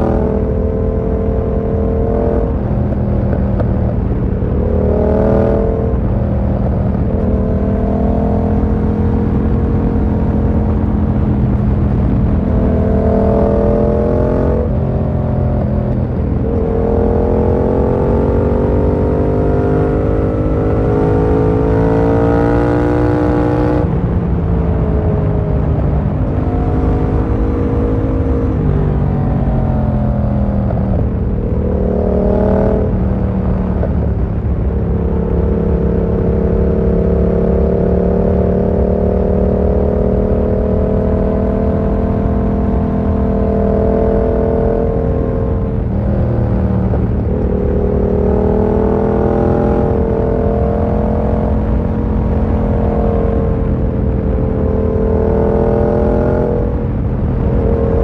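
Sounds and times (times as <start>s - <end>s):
low wind rush: 0.0s - 58.0s
motorcycle engine revving: 0.0s - 58.0s.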